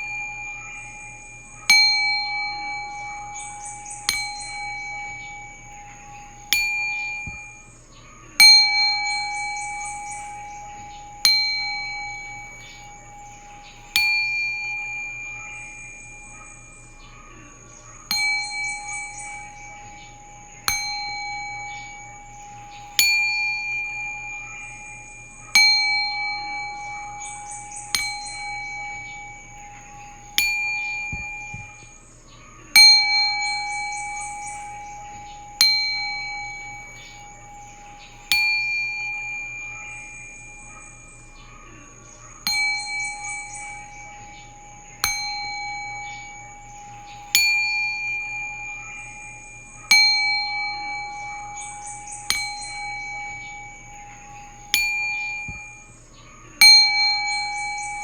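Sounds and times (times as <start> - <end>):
singing bowl ringing: 0.0 - 58.0.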